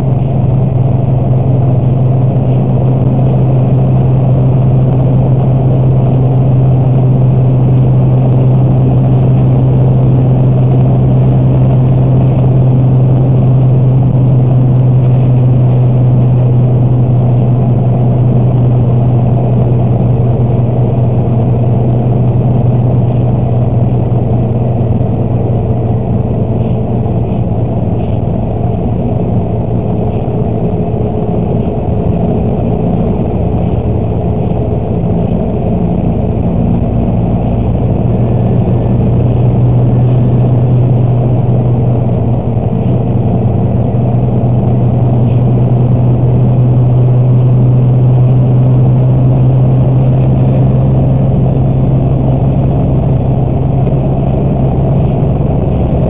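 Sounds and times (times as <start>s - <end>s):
constant low hum: 0.0s - 56.0s
vehicle engine and road drone: 0.0s - 56.0s.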